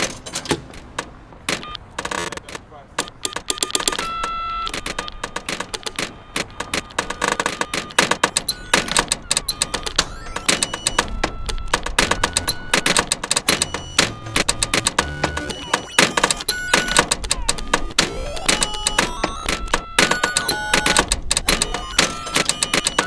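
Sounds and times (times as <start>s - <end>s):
sharp clicks and knocks: 0.0s - 23.0s
telephone beeps: 1.6s - 1.8s, 3.0s - 23.0s.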